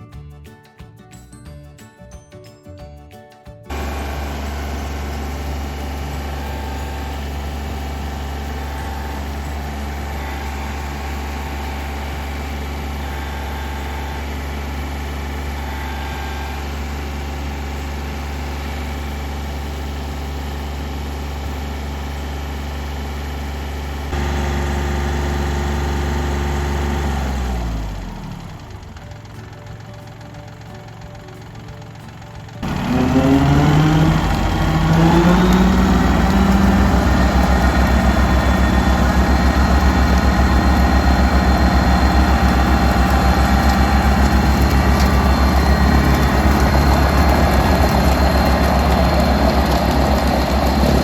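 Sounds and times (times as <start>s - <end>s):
engine winding down: 3.7s - 51.0s
tractor diesel engine idling: 3.7s - 51.0s.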